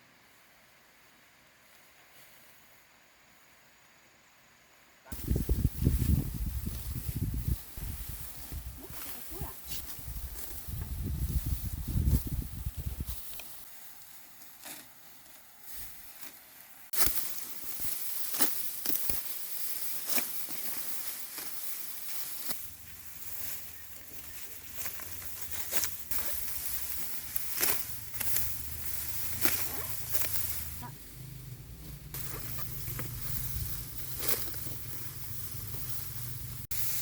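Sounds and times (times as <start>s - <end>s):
rice stalks snapping and rustling: 5.1s - 37.0s.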